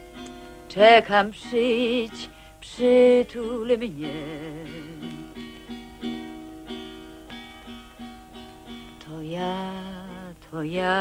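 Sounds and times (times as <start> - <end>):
guitar plucking slow melody: 0.0 - 11.0.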